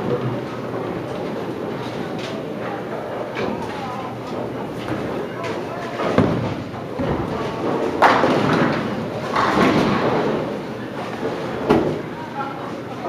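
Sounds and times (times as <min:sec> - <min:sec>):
bowling alley background: 0:00.0 - 0:13.0.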